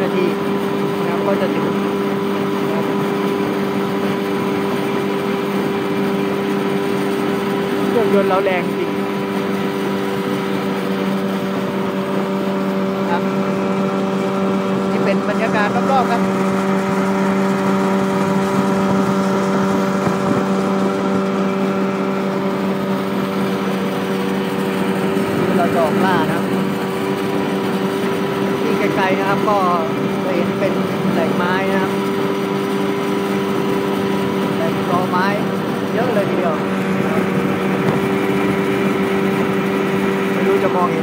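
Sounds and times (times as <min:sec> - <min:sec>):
boat engine droning: 0:00.0 - 0:41.0
wind: 0:00.0 - 0:41.0.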